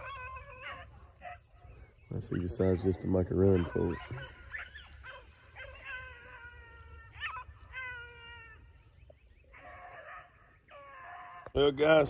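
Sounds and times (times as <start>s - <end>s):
distant dogs baying: 0.0s - 12.0s.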